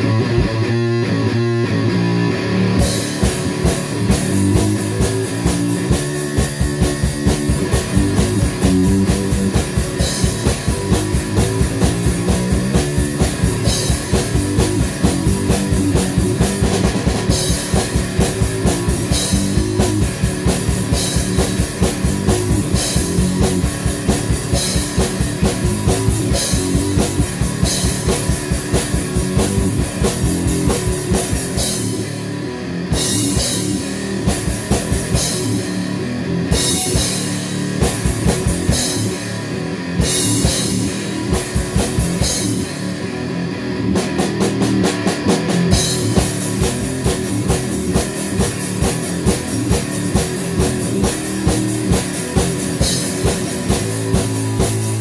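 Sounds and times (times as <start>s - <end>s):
heavy rock song: 0.0s - 55.0s
fast kick-drum beat: 2.8s - 32.2s, 32.9s - 43.0s, 44.0s - 55.0s.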